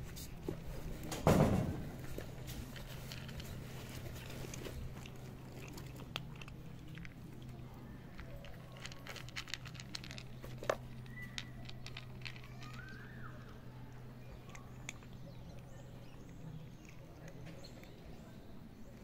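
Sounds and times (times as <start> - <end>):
steady low hum: 0.0 - 19.0
cat crunching dry kibble: 1.8 - 19.0.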